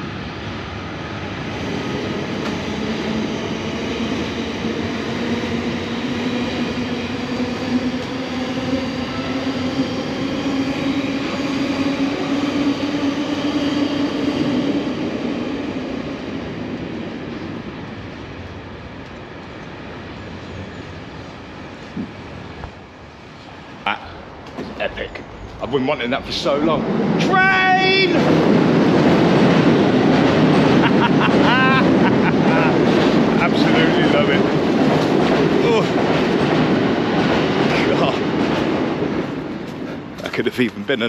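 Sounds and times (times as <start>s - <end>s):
train engine drone: 0.0s - 41.0s.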